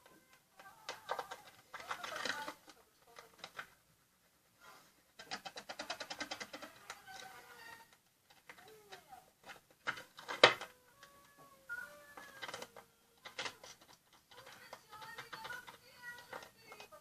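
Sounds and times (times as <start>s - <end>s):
crayons scratching on plastic tub: 0.6s - 3.7s, 4.6s - 11.2s, 11.8s - 17.0s.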